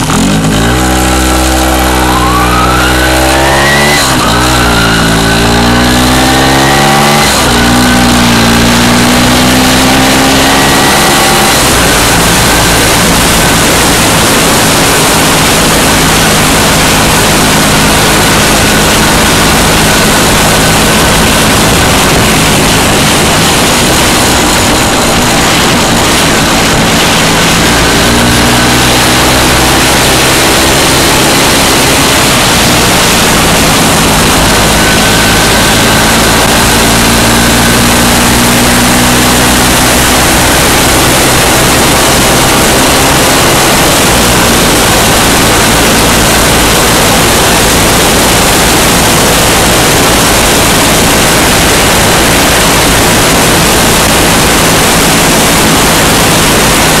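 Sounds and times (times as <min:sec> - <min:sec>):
motorcycle engine running: 0:00.0 - 0:57.0
wind rush on microphone: 0:03.5 - 0:57.0.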